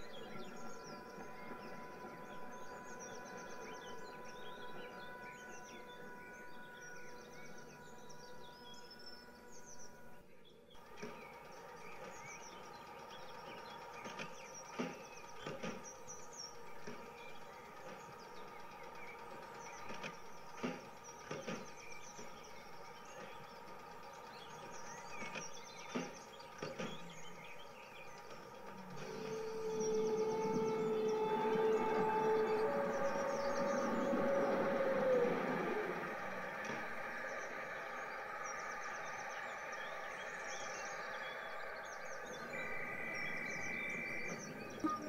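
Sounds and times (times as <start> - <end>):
small birds chirping: 0.0 - 45.0
steady background ambience: 0.0 - 45.0.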